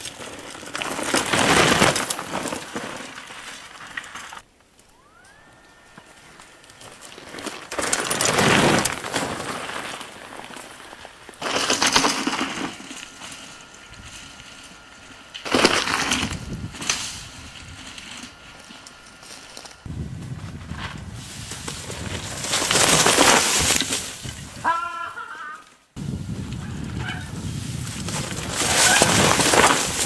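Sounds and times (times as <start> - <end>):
bike tyres crunching over gravel: 0.0 - 25.0, 26.0 - 30.0.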